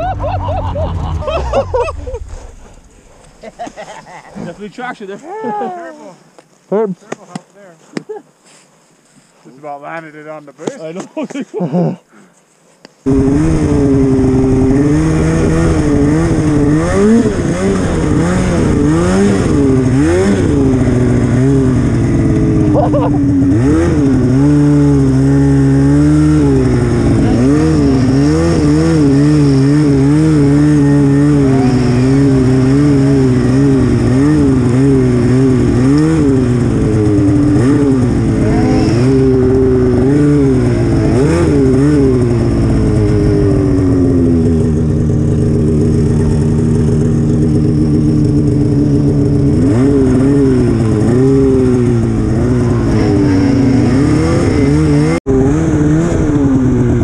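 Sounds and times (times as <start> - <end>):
snowmobile engine revving: 0.0 - 6.2, 13.0 - 57.0.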